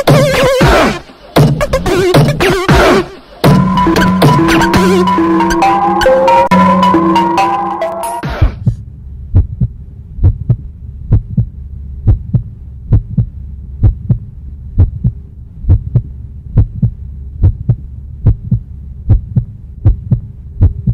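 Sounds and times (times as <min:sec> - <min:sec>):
heartbeat thumps: 0:00.0 - 0:05.4, 0:08.2 - 0:20.9
low steady hum: 0:03.2 - 0:20.9.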